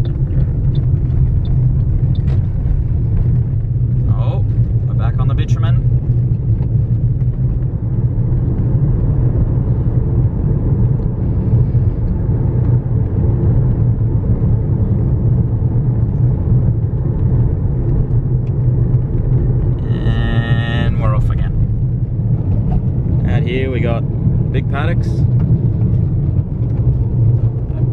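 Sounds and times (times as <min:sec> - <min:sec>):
car interior road rumble: 0:00.0 - 0:27.9.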